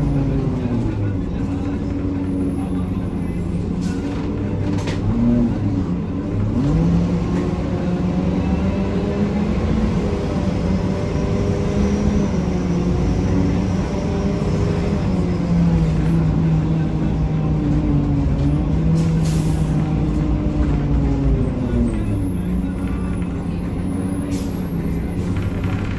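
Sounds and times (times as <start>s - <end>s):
bus diesel engine running: 0.0s - 25.9s
loud transmission grinding: 0.0s - 25.9s.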